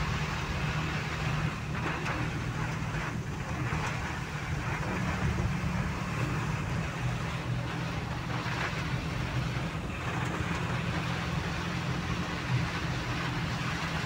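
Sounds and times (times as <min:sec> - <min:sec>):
rain: 0:00.0 - 0:14.0
tyres hissing on wet road: 0:00.0 - 0:14.0
vehicle engine drone: 0:00.0 - 0:14.0
wind: 0:00.0 - 0:14.0.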